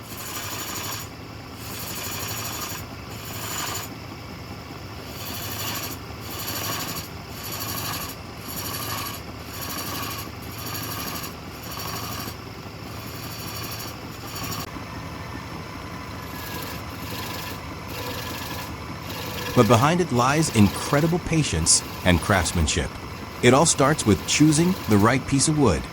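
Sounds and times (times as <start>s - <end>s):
lathe tool cutting wood: 0.0s - 4.0s, 5.0s - 14.7s, 16.0s - 25.9s
lathe motor hum: 0.0s - 22.0s, 22.8s - 25.9s.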